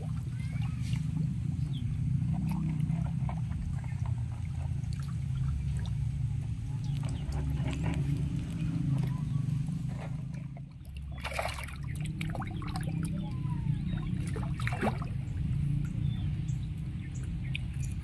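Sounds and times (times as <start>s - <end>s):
fish splashing in water: 0.0s - 18.0s
steady low rumble: 0.0s - 18.0s.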